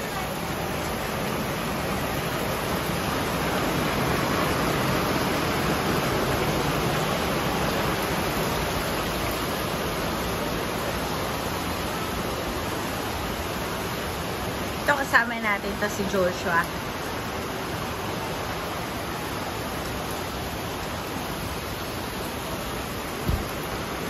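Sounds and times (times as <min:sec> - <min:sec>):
heavy rain falling: 0:00.0 - 0:24.0
small waterfall rushing: 0:00.0 - 0:24.0.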